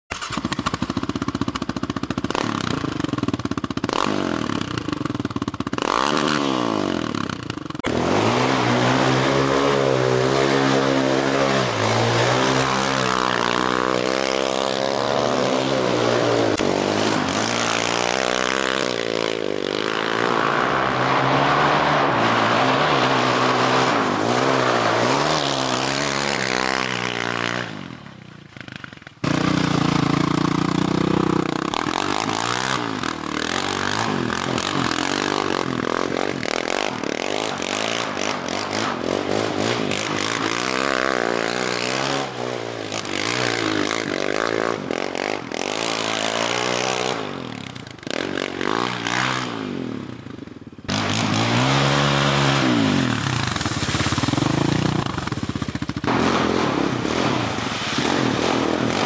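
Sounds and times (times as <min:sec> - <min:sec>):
quad bike engines revving: 0:00.1 - 0:59.0.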